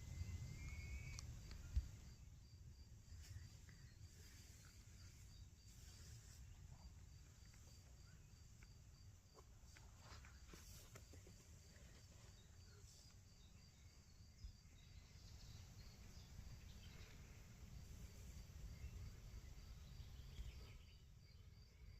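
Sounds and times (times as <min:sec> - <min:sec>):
insect chirping: 0:00.0 - 0:21.9.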